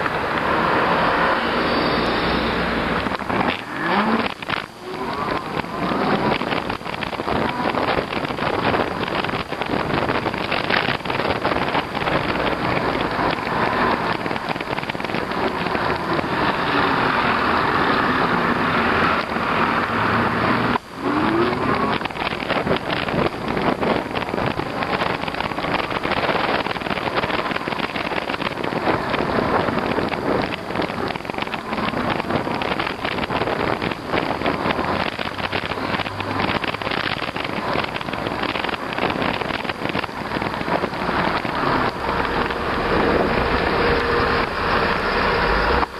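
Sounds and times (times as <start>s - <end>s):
tyre and road noise: 0.0s - 45.9s
wind rushing on microphone: 0.0s - 45.9s.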